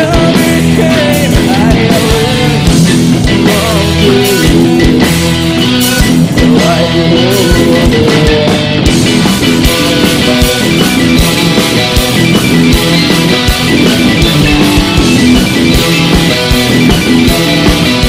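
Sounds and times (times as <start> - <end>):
electric guitar lead line: 0.0 - 18.0
rock band playing live: 0.0 - 18.0.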